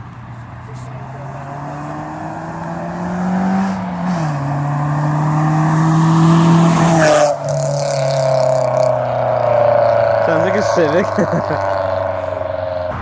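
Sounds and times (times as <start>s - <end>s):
car engine accelerating: 0.9s - 13.0s.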